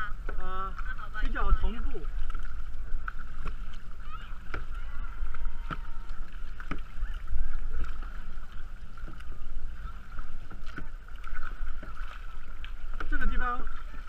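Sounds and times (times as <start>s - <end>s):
paddle strokes in water: 0.0s - 14.0s.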